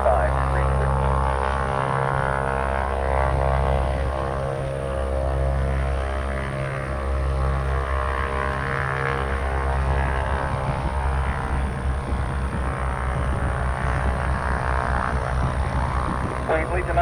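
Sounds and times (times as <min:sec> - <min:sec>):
aircraft engines humming: 0:00.0 - 0:17.0.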